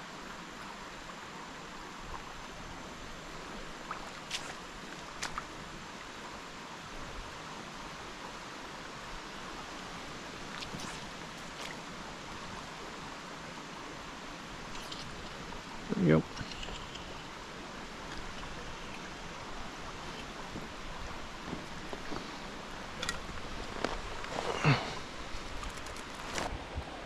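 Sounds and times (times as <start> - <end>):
river running over rocks: 0.0 - 27.0.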